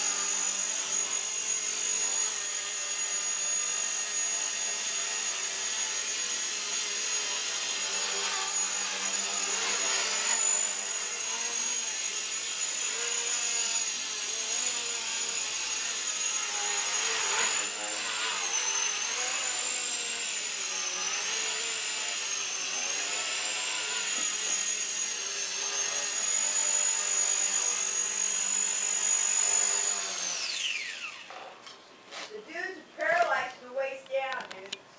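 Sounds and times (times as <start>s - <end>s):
rc helicopter motor whine: 0.0s - 31.3s.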